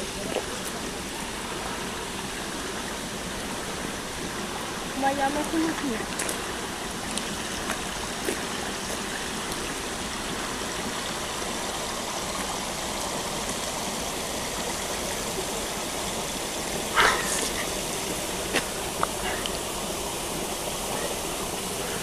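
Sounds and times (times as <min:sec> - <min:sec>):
brook water rushing: 0:00.0 - 0:22.0.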